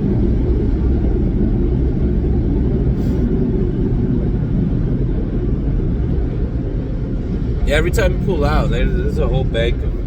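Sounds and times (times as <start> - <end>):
car engine rumble: 0.0 - 10.0
road noise inside car: 0.0 - 10.0.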